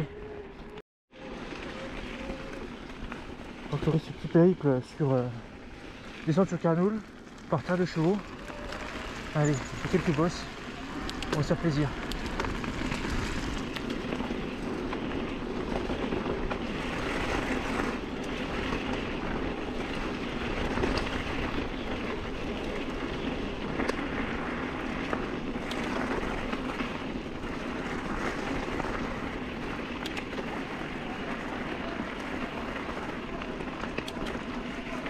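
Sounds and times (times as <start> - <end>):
bike rattling: 0.0 - 35.0
tyres rolling on dirt: 0.0 - 35.0.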